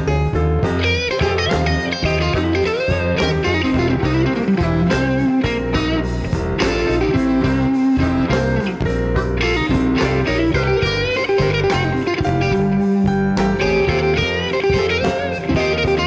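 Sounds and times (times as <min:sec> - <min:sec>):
electric guitar bent notes: 0:00.0 - 0:16.0
live blues band: 0:00.0 - 0:16.0.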